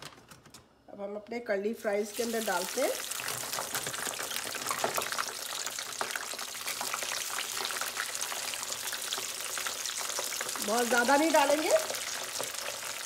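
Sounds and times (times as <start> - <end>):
fries sizzling in hot oil: 2.0 - 13.0.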